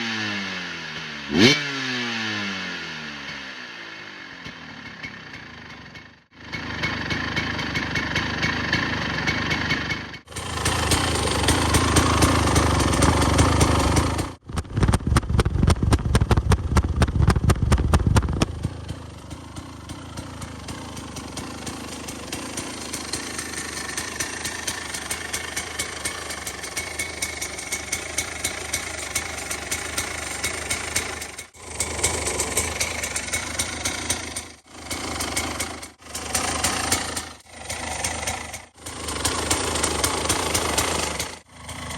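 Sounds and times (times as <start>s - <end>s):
dirt bike engine running: 0.0s - 41.9s.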